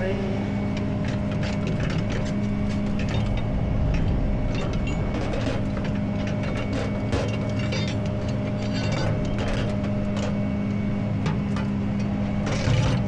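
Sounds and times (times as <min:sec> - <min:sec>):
metallic clicks and clanks: 0:00.7 - 0:13.0.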